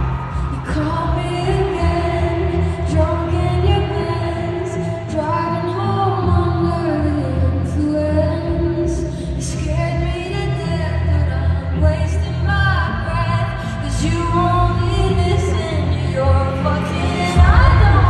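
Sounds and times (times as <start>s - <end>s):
heavy bass: 0.0s - 18.0s
live pop band: 0.0s - 18.0s
woman singing into microphone: 0.2s - 18.0s.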